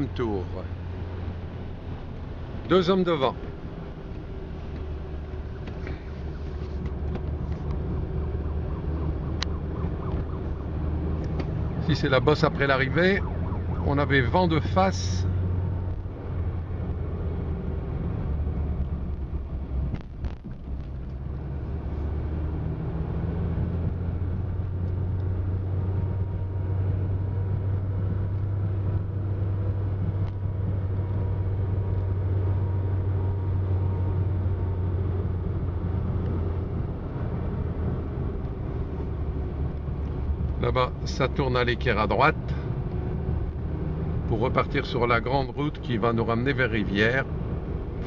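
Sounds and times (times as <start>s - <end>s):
car engine drone: 0.0s - 48.0s.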